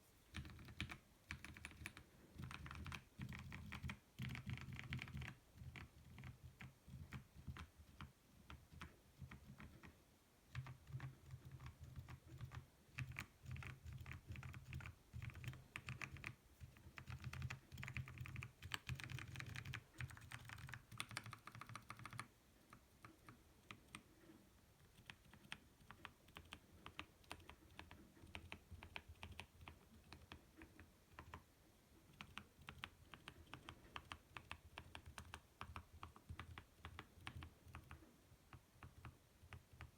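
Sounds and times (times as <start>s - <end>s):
typing on mechanical keyboard: 0.3s - 39.9s.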